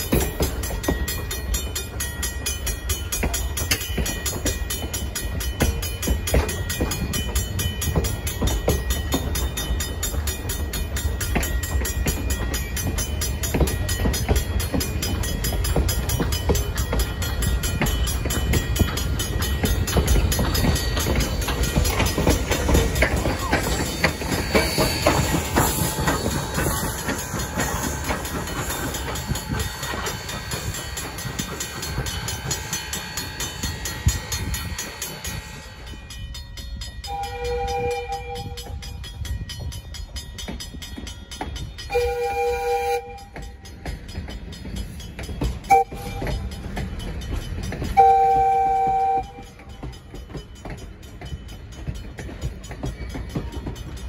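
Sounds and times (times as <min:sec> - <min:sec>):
train coaches rumbling past: 0:00.0 - 0:54.0.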